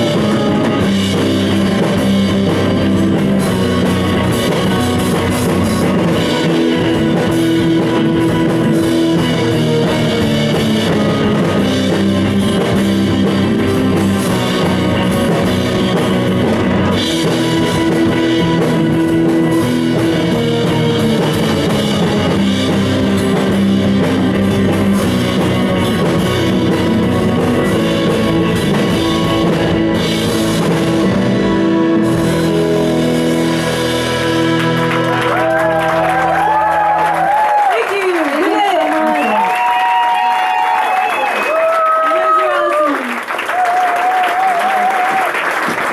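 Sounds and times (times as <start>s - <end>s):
keyboard: 0.0s - 42.2s
bass: 0.0s - 45.9s
drum kit: 0.0s - 45.9s
electric guitar: 0.0s - 45.9s.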